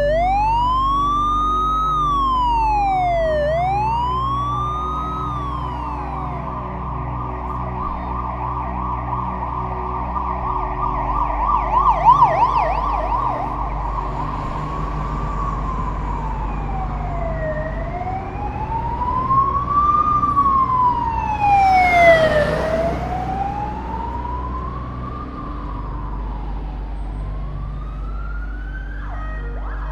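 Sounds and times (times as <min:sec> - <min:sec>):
police siren yelp and wail: 0:00.0 - 0:29.9
traffic rumble: 0:00.0 - 0:29.9.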